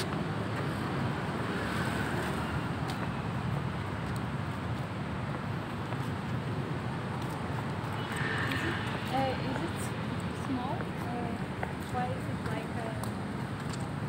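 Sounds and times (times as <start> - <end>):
street traffic hum: 0.0 - 14.0.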